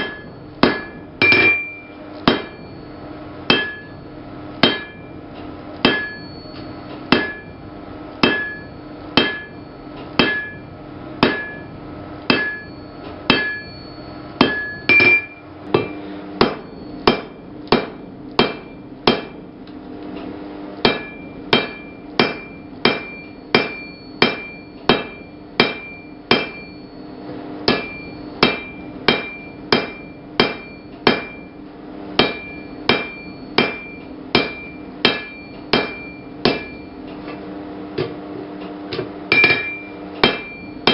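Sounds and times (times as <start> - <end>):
hammer ringing on anvil: 0.0 - 5.2, 5.8 - 19.5, 20.8 - 37.1, 39.0 - 40.9.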